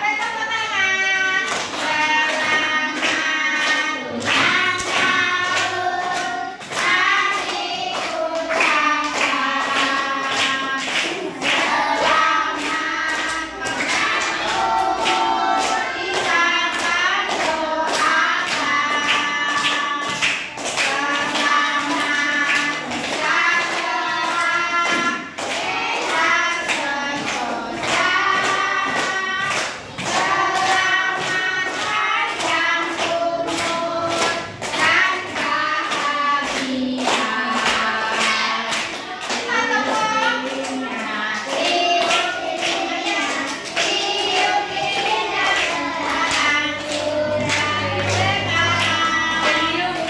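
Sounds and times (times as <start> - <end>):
children singing in chorus: 0.0 - 50.0.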